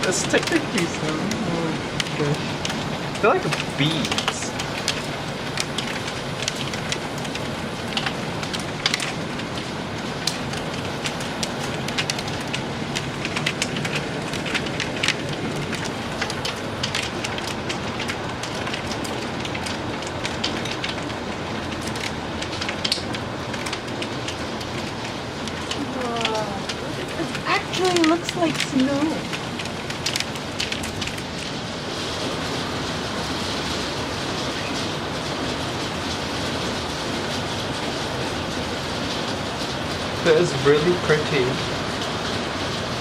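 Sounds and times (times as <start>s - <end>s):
hail falling: 0.0s - 43.0s.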